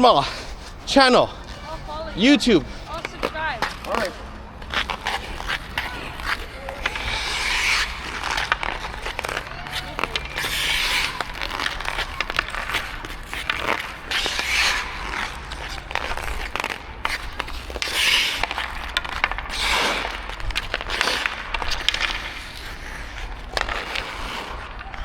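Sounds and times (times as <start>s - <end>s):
ice skates scraping on ice: 0.0s - 25.0s
hockey stick and puck clicks: 2.7s - 25.0s.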